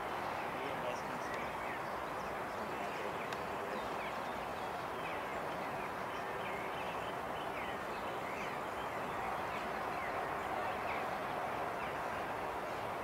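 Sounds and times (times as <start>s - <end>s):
steady background noise: 0.0s - 13.0s
small birds chirping: 0.3s - 13.0s.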